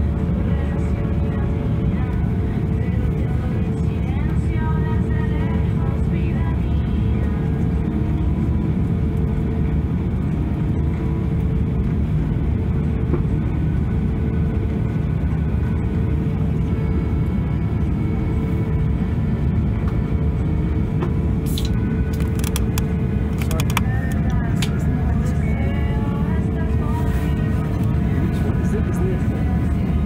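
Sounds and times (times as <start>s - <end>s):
jet engines idling from cabin: 0.0s - 30.0s.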